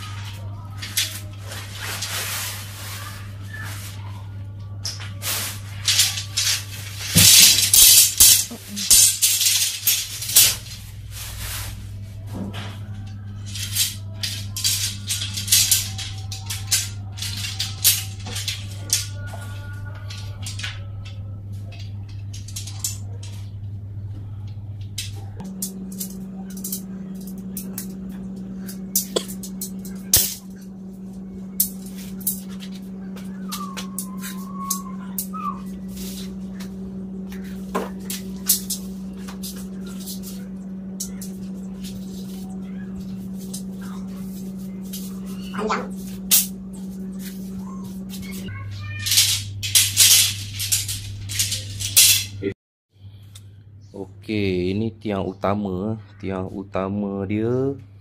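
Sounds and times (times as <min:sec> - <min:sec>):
low hum: 0:00.0 - 0:56.2.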